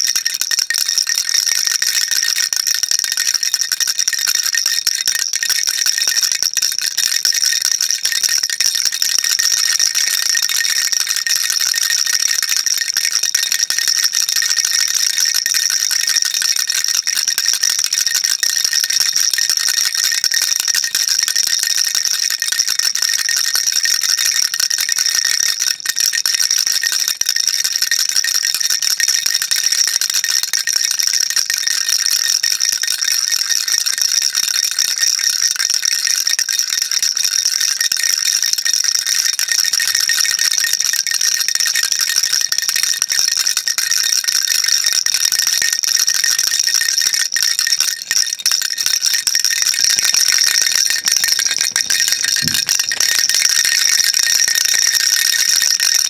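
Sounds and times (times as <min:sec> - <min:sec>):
baby rattle shaken: 0:00.0 - 0:29.5, 0:37.5 - 0:56.0.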